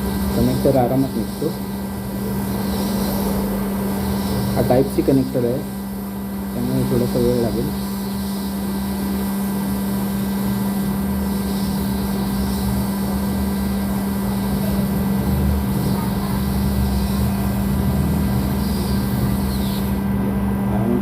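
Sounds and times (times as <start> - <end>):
hot air blower humming: 0.0 - 21.0.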